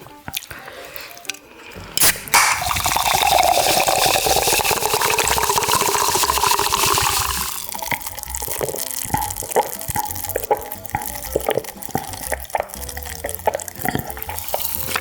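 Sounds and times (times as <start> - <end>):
liquid pouring into container: 2.1 - 15.0.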